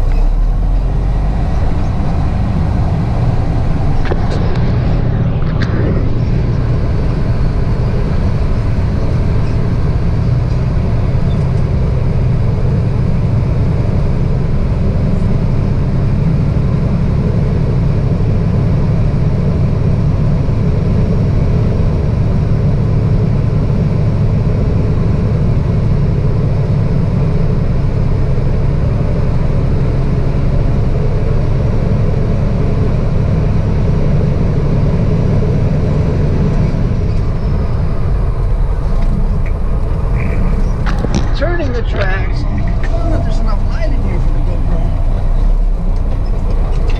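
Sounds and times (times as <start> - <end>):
road noise: 0.0 - 46.9
truck diesel engine rumble: 0.0 - 46.9.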